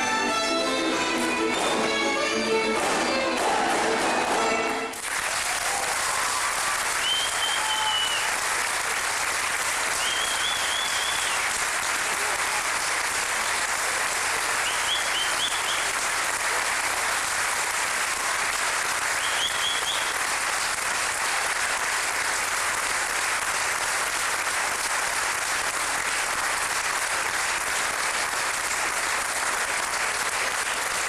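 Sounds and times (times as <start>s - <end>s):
audience applauding: 0.9s - 31.0s.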